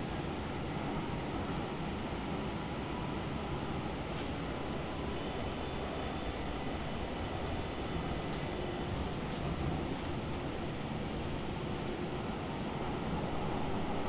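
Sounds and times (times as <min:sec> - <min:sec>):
rail car rumbling on track: 0:00.0 - 0:14.0.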